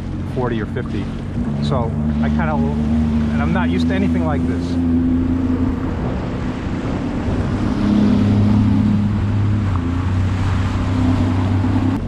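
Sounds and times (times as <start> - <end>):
personal watercraft engine hum: 0.0 - 12.0
water rushing past hull: 0.0 - 12.0
wind buffeting microphone: 0.0 - 12.0.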